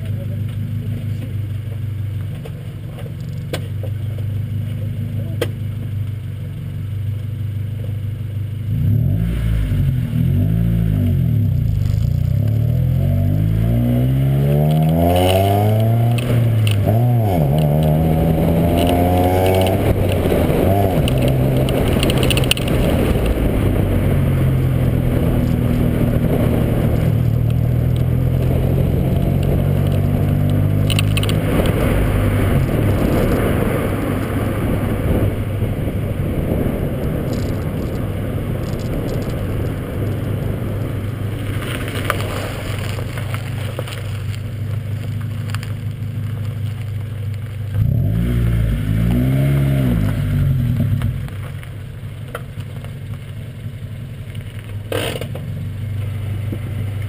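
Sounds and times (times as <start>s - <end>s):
wind and road noise: 0.0s - 57.0s
car engine accelerating: 7.1s - 57.0s.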